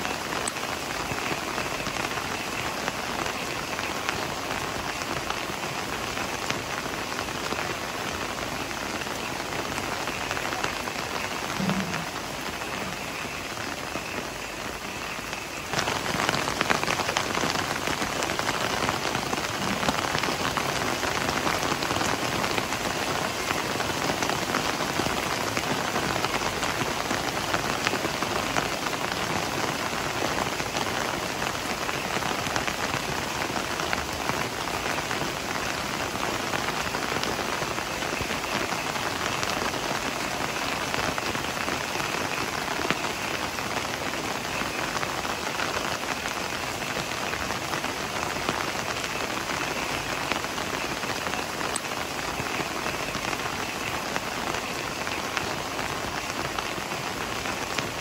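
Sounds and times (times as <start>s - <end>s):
heavy rain hiss: 0.0s - 58.0s
raindrops ticking on leaves: 0.0s - 58.0s.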